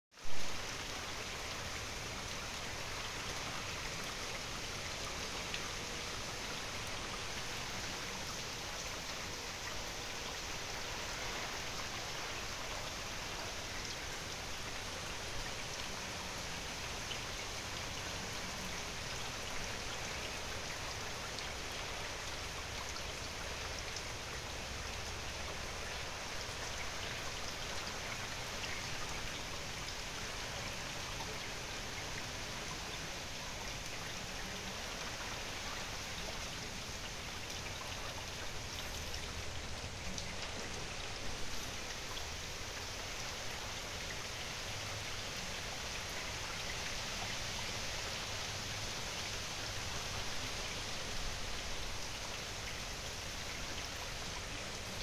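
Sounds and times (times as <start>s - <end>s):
steady rain falling: 0.1s - 55.0s.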